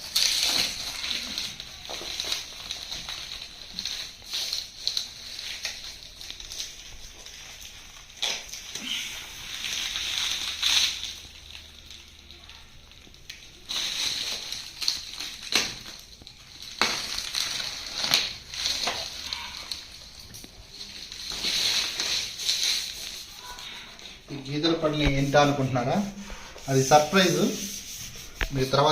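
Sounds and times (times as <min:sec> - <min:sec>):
packaging rustling and crinkling: 0:00.0 - 0:28.9.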